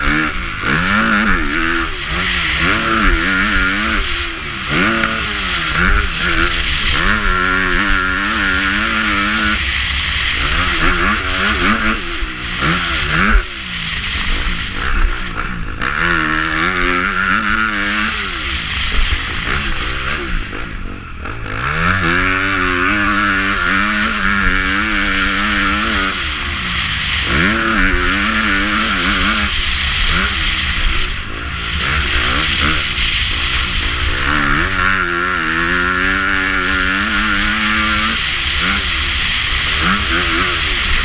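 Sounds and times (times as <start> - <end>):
motocross bike engine revving: 0.0 - 41.0
steady rushing hiss: 0.0 - 41.0.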